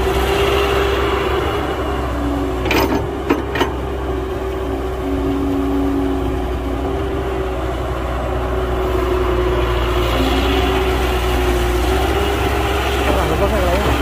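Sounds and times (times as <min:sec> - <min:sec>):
diesel machinery running with whine: 0:00.0 - 0:14.0.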